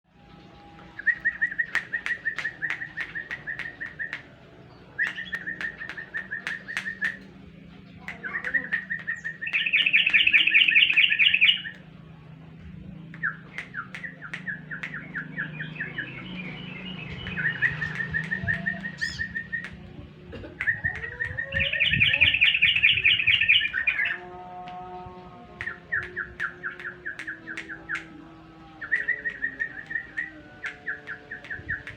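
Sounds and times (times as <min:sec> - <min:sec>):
bulbul chattering song: 0:00.1 - 0:12.0, 0:13.0 - 0:31.9.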